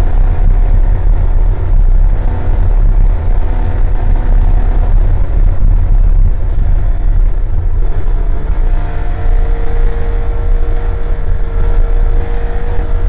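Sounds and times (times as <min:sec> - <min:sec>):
race car engine droning: 0:00.0 - 0:13.0.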